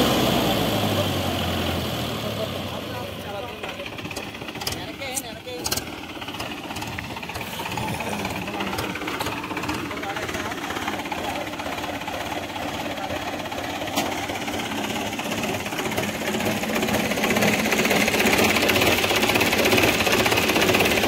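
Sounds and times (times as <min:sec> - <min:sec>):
tractor diesel engine revving: 0:00.0 - 0:21.0.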